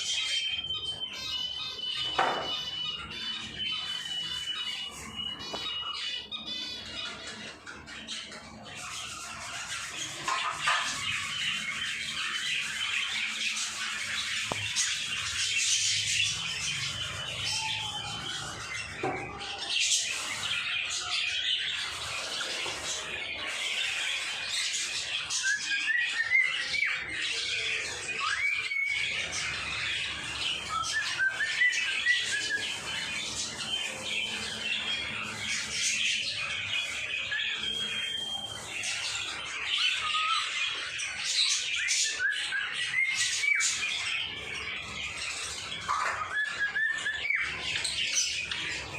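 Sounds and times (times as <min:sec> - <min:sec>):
pet birds squawking and chirping: 0:00.0 - 0:48.9.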